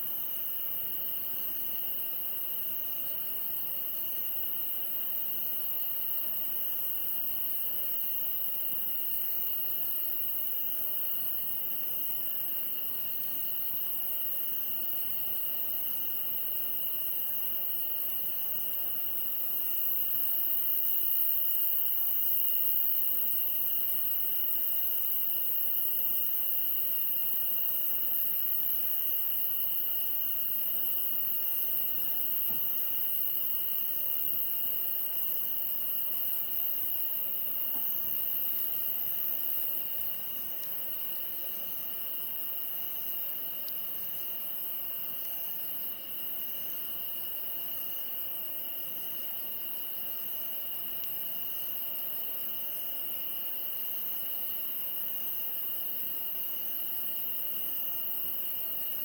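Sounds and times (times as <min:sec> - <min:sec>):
insects trilling: 0:00.0 - 0:59.0
rhythmic insect chirp: 0:00.0 - 0:59.0.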